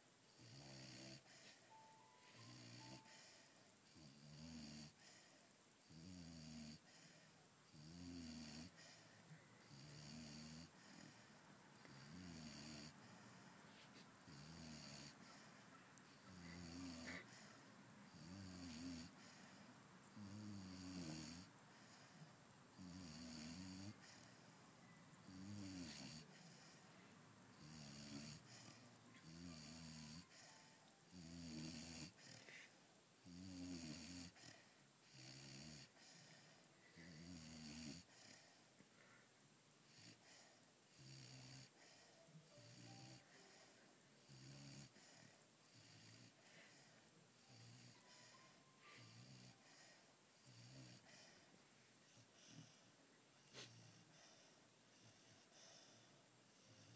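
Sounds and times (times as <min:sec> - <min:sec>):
puppy snoring: 0:00.3 - 0:24.5, 0:25.2 - 0:26.9, 0:27.5 - 0:38.6, 0:39.9 - 0:56.9.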